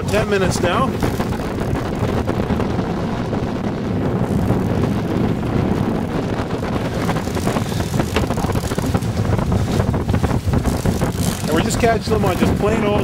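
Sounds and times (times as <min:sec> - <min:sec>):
choppy water: 0:00.0 - 0:13.0
wind buffeting microphone: 0:00.0 - 0:13.0.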